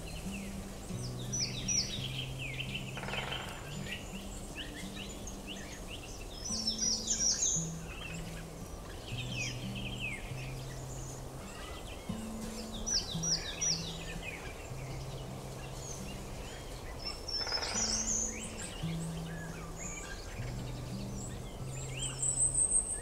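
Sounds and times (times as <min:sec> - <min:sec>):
soft background music: 0:00.0 - 0:23.0
songbirds chirping: 0:00.0 - 0:23.0.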